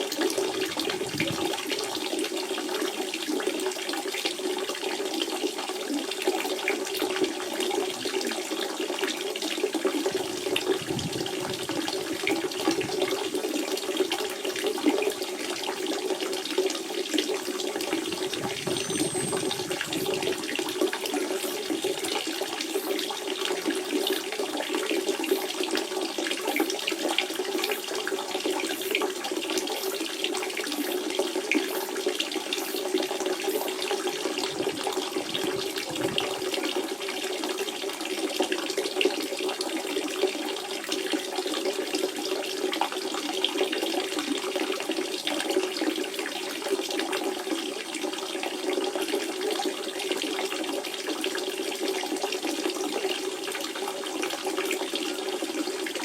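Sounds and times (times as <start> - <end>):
spring water splashing and gurgling: 0.0 - 4.1, 4.7 - 47.4.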